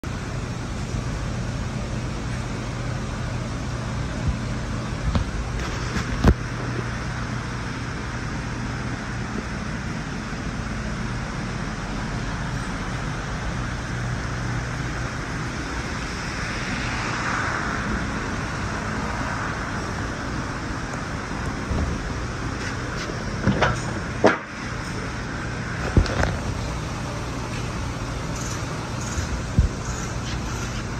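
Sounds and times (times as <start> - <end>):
low mechanical hum: 0.0 - 30.9.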